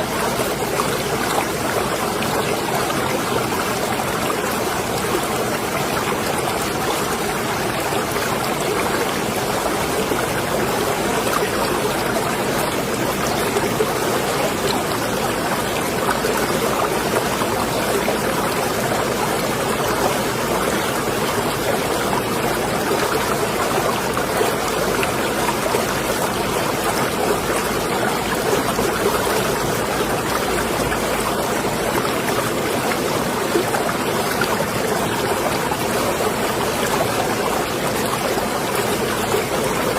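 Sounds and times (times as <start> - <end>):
water lapping and trickling: 0.0 - 39.9.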